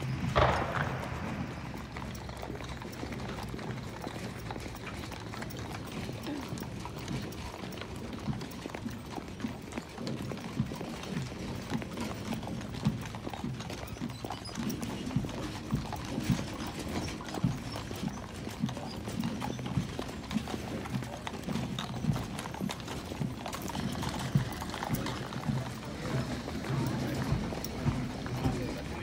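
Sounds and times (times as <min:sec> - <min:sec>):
hooves clip-clopping on pavement: 0:00.0 - 0:29.0.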